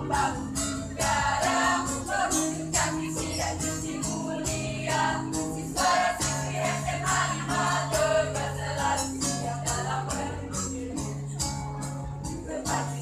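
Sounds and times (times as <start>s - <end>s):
mixed choir singing in harmony: 0.0s - 11.2s, 12.4s - 13.0s
acoustic guitar: 0.0s - 13.0s
jingling shaken percussion: 0.0s - 13.0s.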